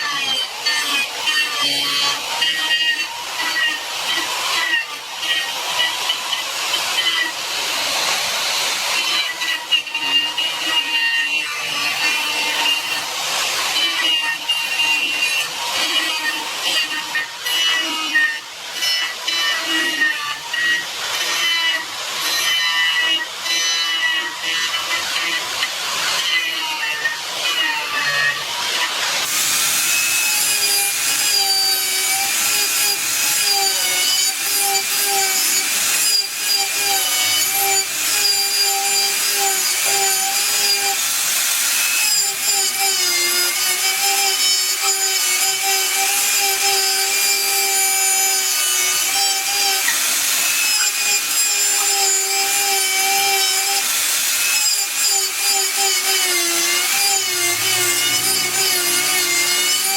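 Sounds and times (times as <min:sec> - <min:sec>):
power tool cutting wood: 0:00.0 - 0:59.9.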